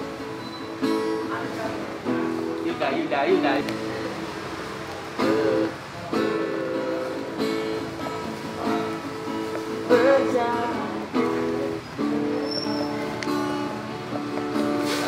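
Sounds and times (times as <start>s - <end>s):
plucked string instrument chords: 0.0s - 15.0s.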